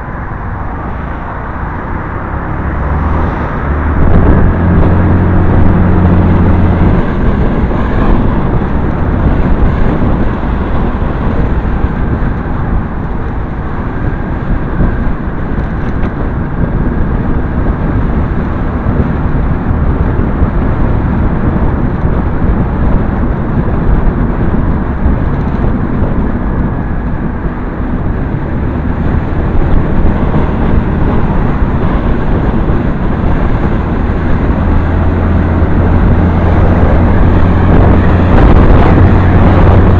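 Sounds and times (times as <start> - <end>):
motorcycle engine hum: 0.0 - 39.9
wind noise on microphone: 0.0 - 39.9.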